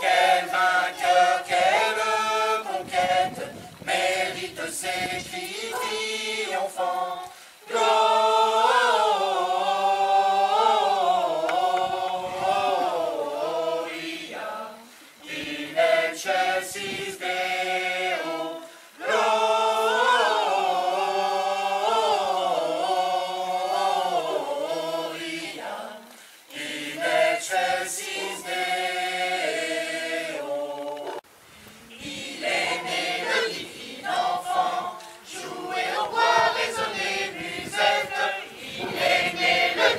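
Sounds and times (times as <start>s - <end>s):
choir singing: 0.0s - 31.2s, 31.9s - 39.9s.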